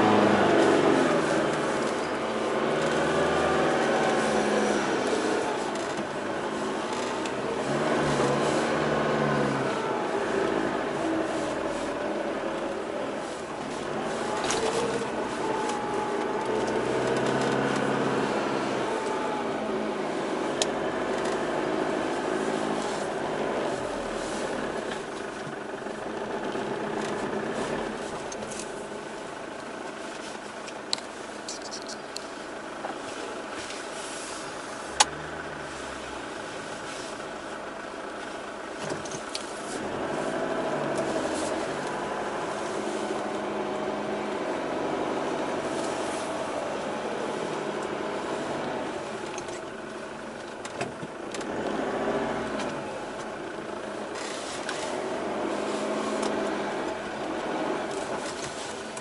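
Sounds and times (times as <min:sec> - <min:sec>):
engine drone inside cab: 0:00.0 - 0:59.0.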